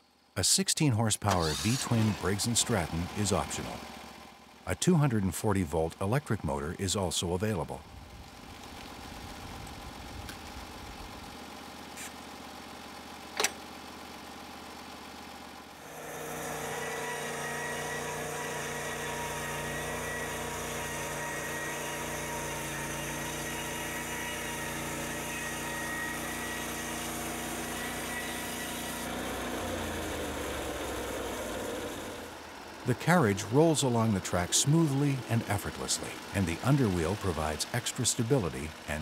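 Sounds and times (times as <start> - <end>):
small gasoline engine: 1.3 - 6.8, 7.6 - 39.0.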